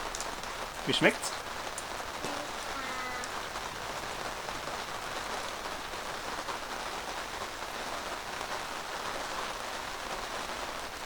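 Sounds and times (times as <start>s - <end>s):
rain drumming on canvas roof: 0.0s - 11.0s.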